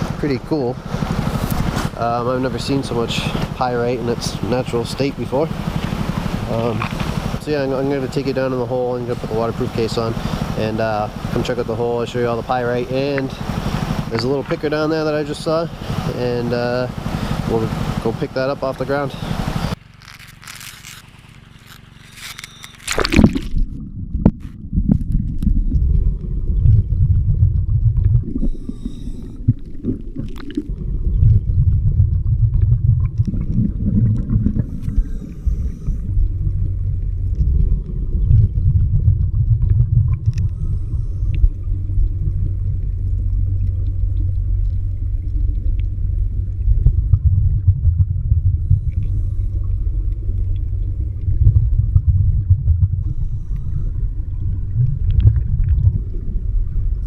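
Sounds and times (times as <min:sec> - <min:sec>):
muffled underwater motor hum: 0:00.0 - 0:57.0.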